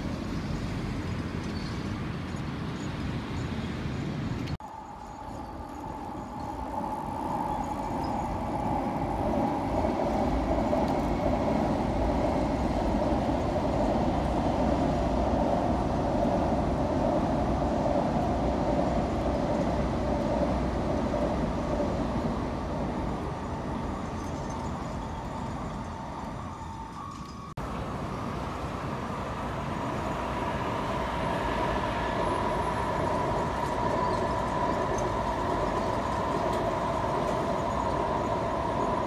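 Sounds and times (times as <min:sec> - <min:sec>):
distant train rushing rumble: 0:00.0 - 0:39.0.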